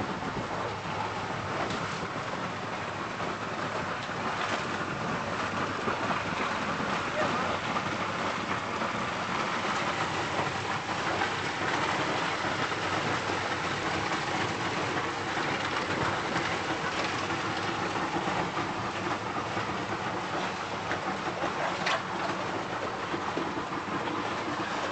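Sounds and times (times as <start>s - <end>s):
motorboat engine and water rush: 0.0s - 24.9s.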